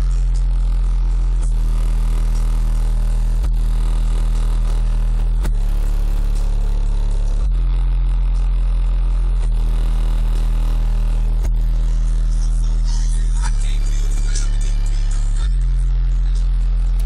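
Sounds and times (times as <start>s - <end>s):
subwoofer deep bass notes: 0.0s - 17.0s.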